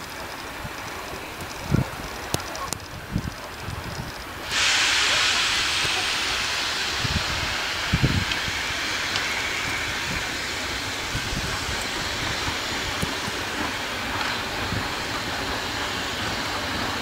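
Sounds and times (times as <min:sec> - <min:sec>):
train rumbling hiss: 0:00.0 - 0:17.0
wheels ticking on rails: 0:00.0 - 0:17.0.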